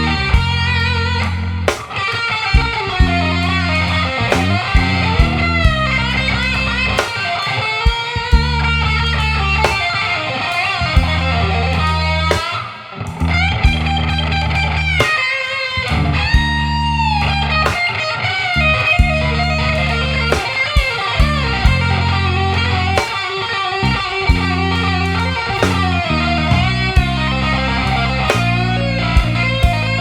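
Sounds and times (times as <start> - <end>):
sustained bass notes: 0.0 - 1.8, 2.6 - 7.1, 8.1 - 9.8, 10.7 - 12.4, 13.1 - 15.1, 15.8 - 17.8, 18.6 - 20.5, 21.1 - 23.1, 23.8 - 30.0
electric guitar blues solo: 0.0 - 30.0
steady drum beat: 0.0 - 30.0.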